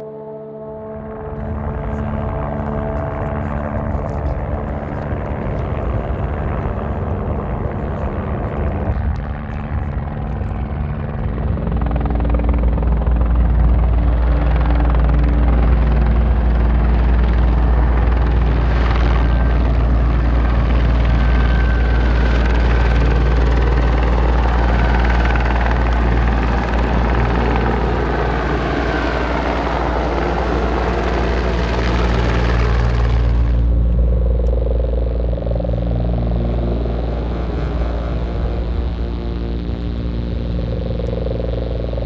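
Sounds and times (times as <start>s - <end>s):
helicopter rotor and engine: 0.0s - 42.0s.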